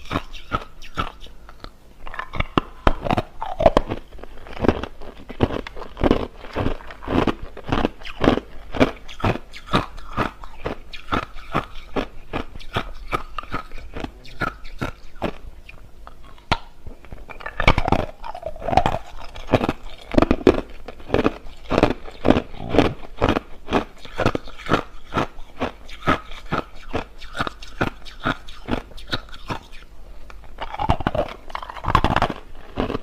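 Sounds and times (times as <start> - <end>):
ice crunching being chewed: 2.1 - 15.4, 16.2 - 29.8, 30.6 - 33.0.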